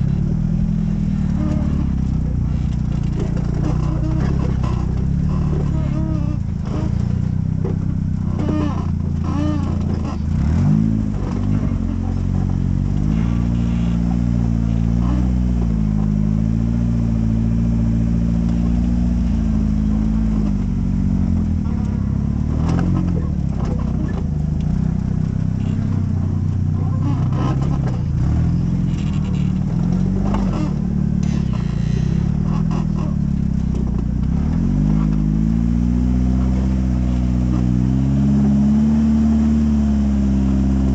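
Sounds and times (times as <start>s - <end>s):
buggy engine at low revs: 0.0s - 40.9s.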